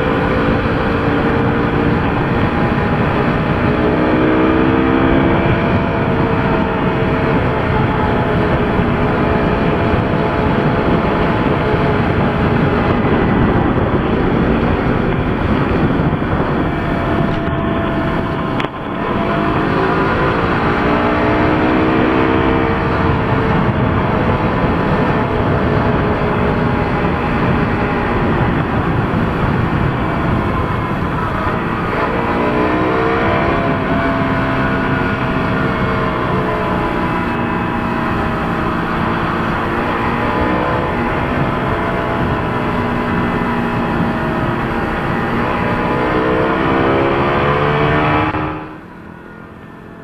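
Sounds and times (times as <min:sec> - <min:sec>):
motorcycle engine accelerating: 0:00.0 - 0:50.0
wind noise: 0:00.0 - 0:50.0.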